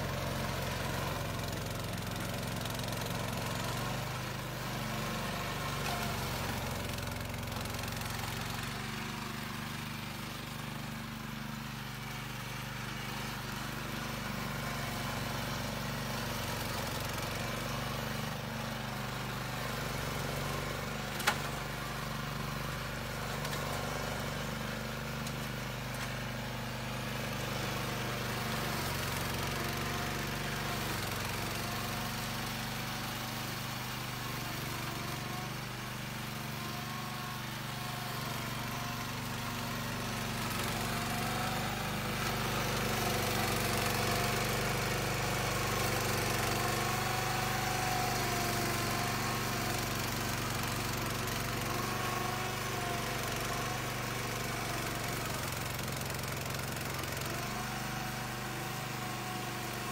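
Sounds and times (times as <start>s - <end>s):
small petrol engine running: 0.0s - 59.9s
cutter chopping weeds: 0.1s - 9.7s, 19.8s - 26.6s, 27.5s - 59.9s.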